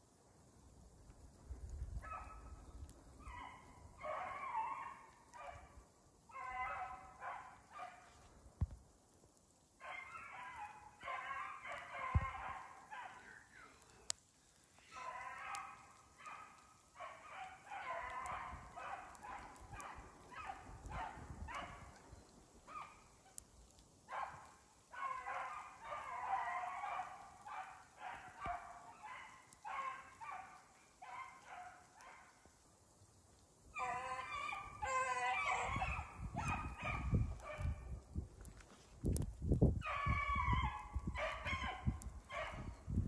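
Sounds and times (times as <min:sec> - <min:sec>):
hounds baying: 0:02.0 - 0:08.3, 0:09.8 - 0:13.5, 0:14.7 - 0:32.6, 0:33.8 - 0:37.8, 0:39.8 - 0:42.8.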